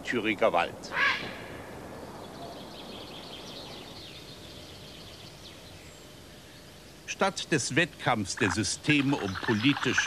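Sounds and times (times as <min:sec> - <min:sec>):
background hiss: 0:00.0 - 0:10.0
distant birdsong: 0:00.0 - 0:10.0.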